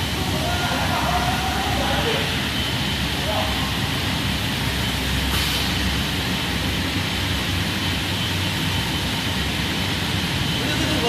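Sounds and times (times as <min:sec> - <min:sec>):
drying machine humming: 0:00.0 - 0:11.0
high-pitched whine: 0:00.0 - 0:11.0.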